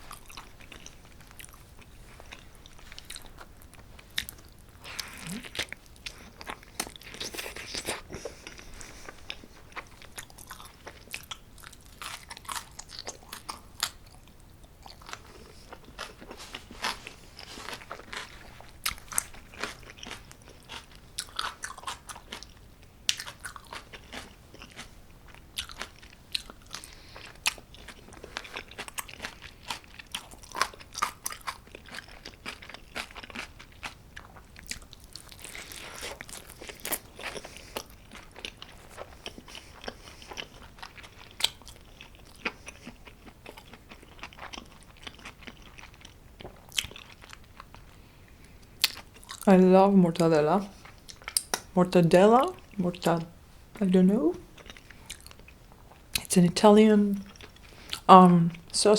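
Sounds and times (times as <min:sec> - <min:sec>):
person chewing pizza crunches: 0:00.0 - 0:49.5, 0:50.2 - 0:51.8, 0:54.2 - 0:56.3, 0:57.2 - 0:58.7.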